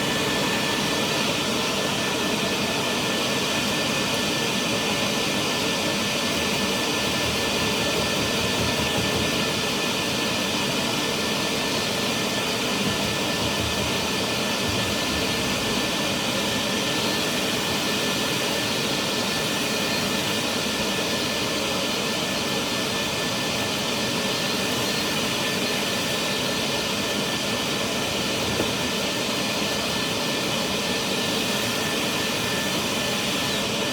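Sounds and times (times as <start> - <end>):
cleaning machine motor whine: 0.0 - 33.9.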